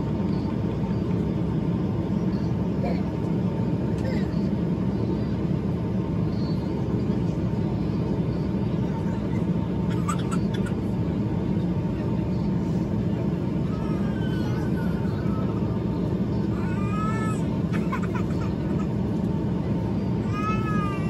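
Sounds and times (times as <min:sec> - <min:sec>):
airliner cabin rumble: 0:00.0 - 0:21.0
faint steady whine: 0:00.0 - 0:21.0.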